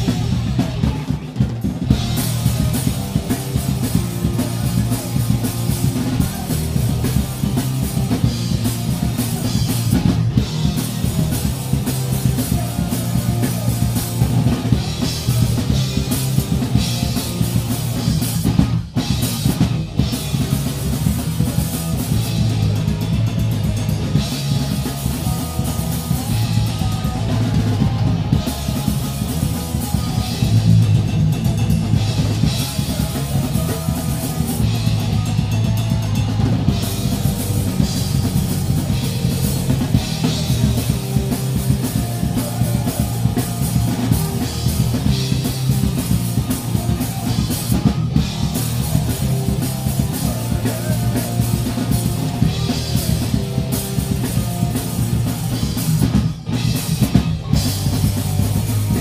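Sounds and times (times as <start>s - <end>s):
rock drum kit playing: 0.0s - 59.0s.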